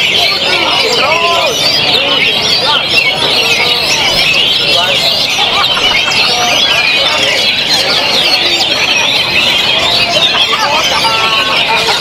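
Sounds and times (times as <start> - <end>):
chorus of birds singing: 0.0 - 12.0.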